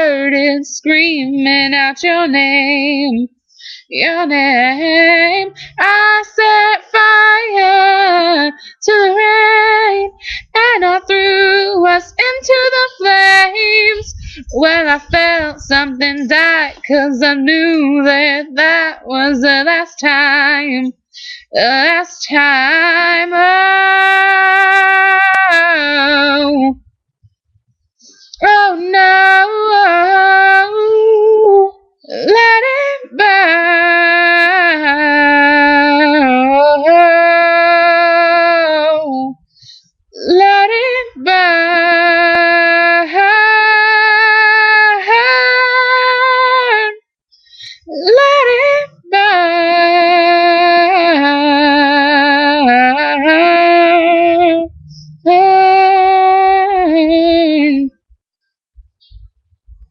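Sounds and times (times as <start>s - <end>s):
woman singing unaccompanied: 0.0s - 26.9s, 28.1s - 58.1s.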